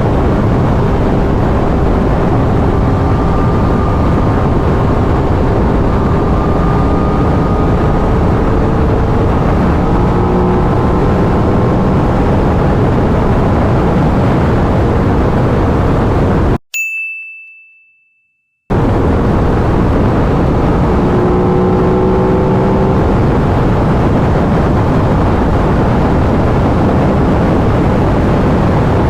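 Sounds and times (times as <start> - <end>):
motorcycle engine drone: 0.0 - 16.6, 18.7 - 29.0
wind rushing over microphone: 0.0 - 16.6, 18.7 - 29.0.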